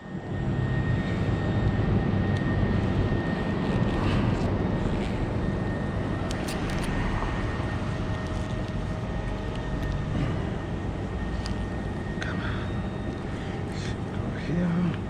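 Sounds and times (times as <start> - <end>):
engine droning: 0.0 - 15.0
thin steady high tone: 0.0 - 15.0.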